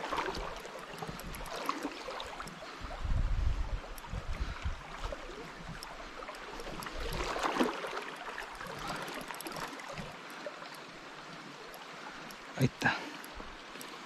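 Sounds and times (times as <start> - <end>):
river water rushing: 0.0 - 2.9, 4.9 - 14.0.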